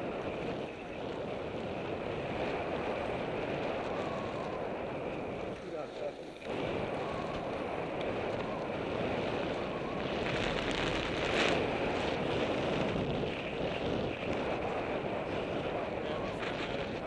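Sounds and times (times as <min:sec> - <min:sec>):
tyres rolling on rough asphalt: 0:00.0 - 0:17.0
wind rushing over microphone: 0:00.0 - 0:17.0.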